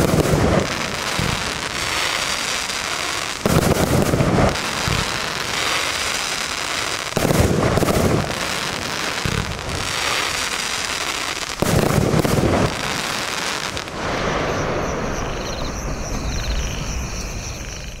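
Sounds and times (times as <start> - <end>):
crackling fireworks: 0.0 - 18.0.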